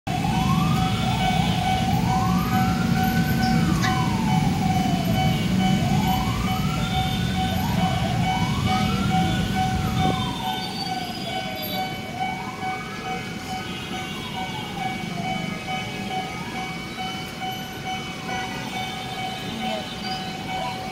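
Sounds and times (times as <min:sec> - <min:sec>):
level crossing warning siren: 0:00.1 - 0:20.9
low traffic rumble: 0:00.1 - 0:20.9.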